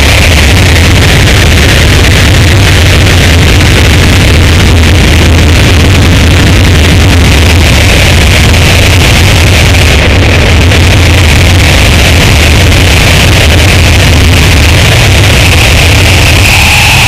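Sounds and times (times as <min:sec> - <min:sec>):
harsh distorted noise music: 0:00.0 - 0:17.0.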